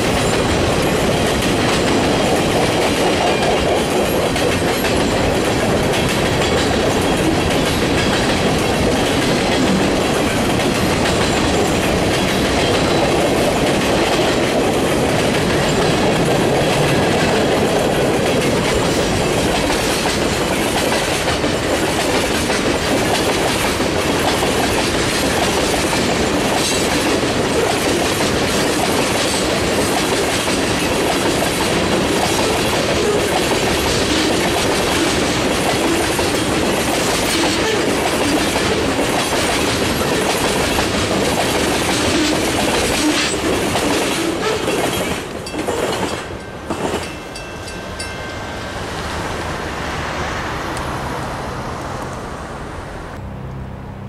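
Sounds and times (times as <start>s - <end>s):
wheels clicking on rails: 0.0s - 48.7s
freight train rolling past: 0.0s - 53.4s.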